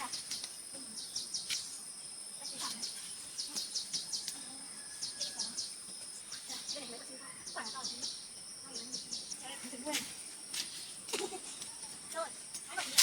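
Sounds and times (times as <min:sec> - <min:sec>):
birds chirping: 0:00.0 - 0:12.5
insects droning: 0:00.0 - 0:13.0.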